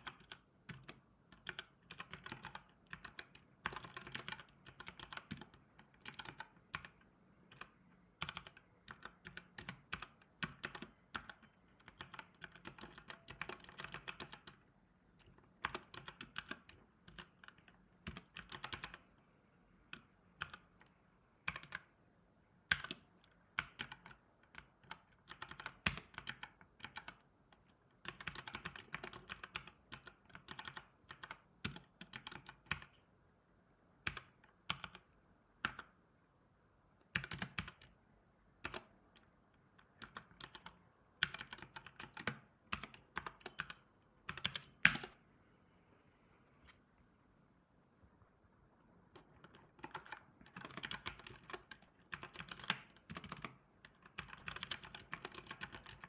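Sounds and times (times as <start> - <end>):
typing on computer keyboard: 0.0 - 14.6, 15.2 - 19.1, 19.9 - 22.0, 22.6 - 33.0, 34.0 - 36.0, 37.0 - 38.0, 38.6 - 45.2, 49.1 - 56.0.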